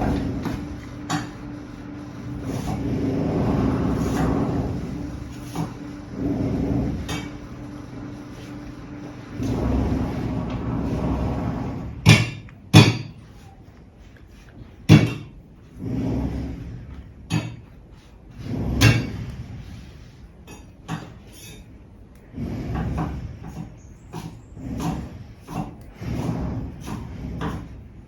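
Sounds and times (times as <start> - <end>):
low rumbling: 0.0 - 20.4, 22.0 - 28.0.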